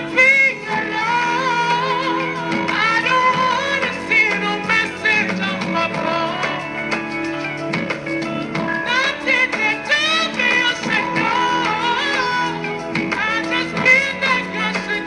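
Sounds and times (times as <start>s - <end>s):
man singing: 0.0s - 7.1s, 8.8s - 15.0s
sparse instrumental backing: 0.0s - 15.0s.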